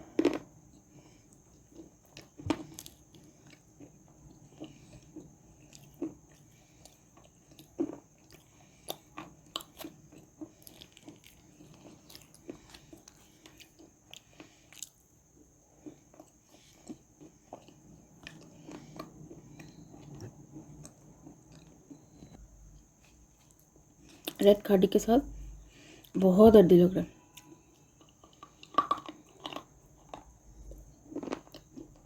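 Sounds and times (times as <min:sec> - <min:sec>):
crunching and chewing clay: 0:00.0 - 0:24.5, 0:27.2 - 0:32.0.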